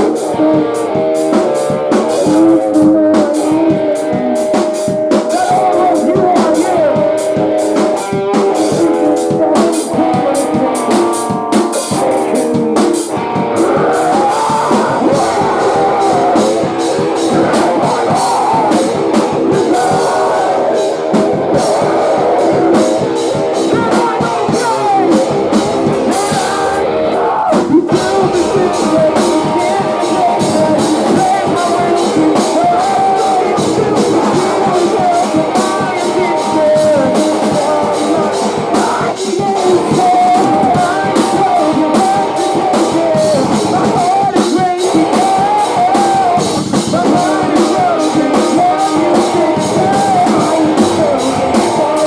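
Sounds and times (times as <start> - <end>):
distorted guitars: 0.0 - 52.0
keyboard: 0.0 - 52.0
person singing: 0.0 - 52.0
pounding drum kit: 0.0 - 52.0.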